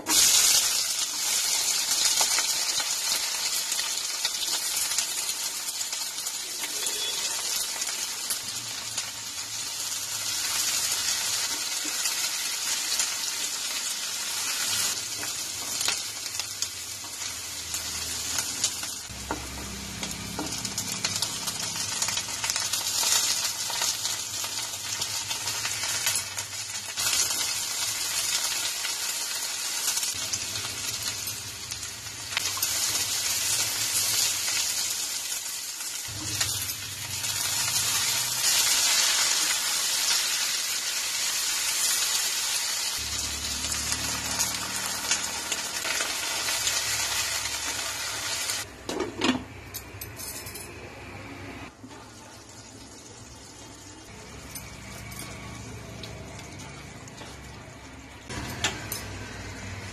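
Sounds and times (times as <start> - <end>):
onions sizzling in hot oil: 0.0 - 48.7, 51.7 - 59.9.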